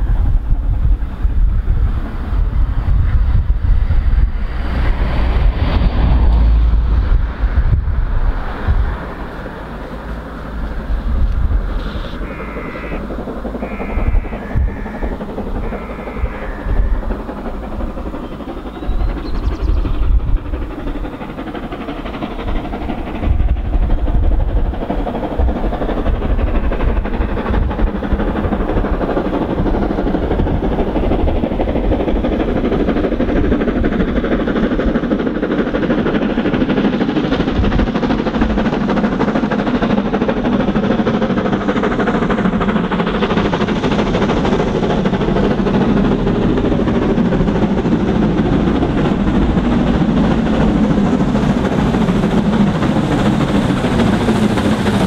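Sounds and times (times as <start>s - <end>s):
steam locomotive running: 0.0s - 55.0s.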